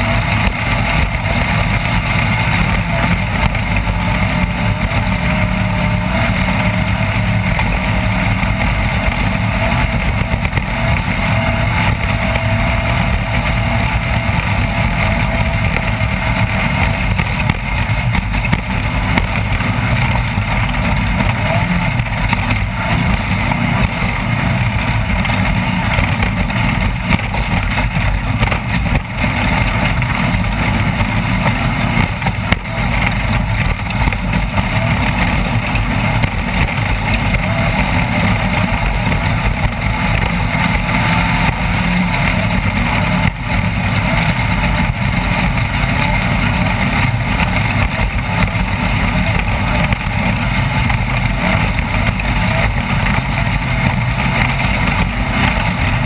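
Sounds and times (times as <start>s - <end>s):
race vehicle engine running: 0.0s - 56.0s
vehicle over rough ground: 0.0s - 56.0s.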